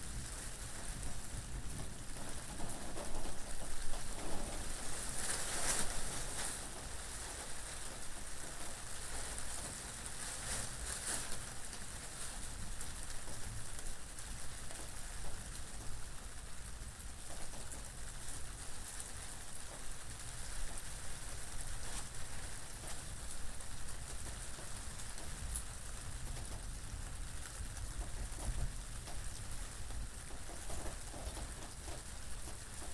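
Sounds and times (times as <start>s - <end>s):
steady rain falling: 0.0s - 32.9s
rain spatters: 0.1s - 32.9s.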